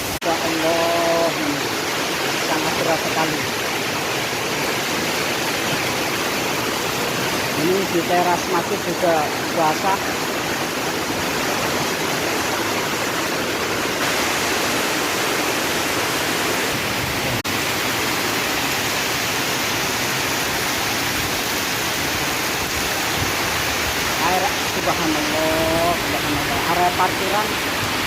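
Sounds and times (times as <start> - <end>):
torrential rain pouring: 0.0 - 28.0.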